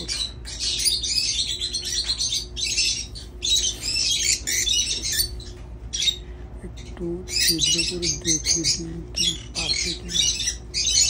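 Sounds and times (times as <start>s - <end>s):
lovebirds chirping and squawking: 0.0s - 11.0s.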